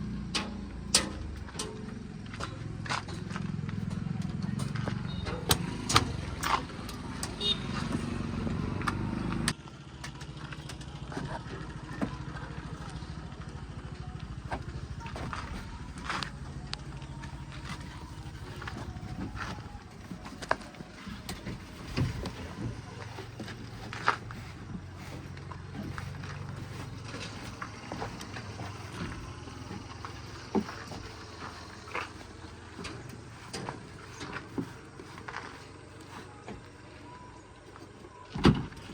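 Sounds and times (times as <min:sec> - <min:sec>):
heavy machinery diesel engine idling: 0:00.0 - 0:38.9.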